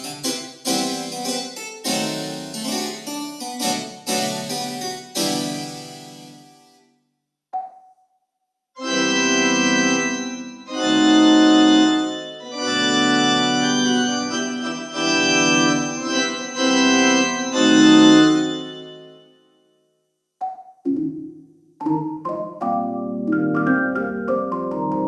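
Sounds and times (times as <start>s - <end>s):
organ chords on digital piano: 0.0s - 6.7s, 8.8s - 19.2s, 21.8s - 25.0s.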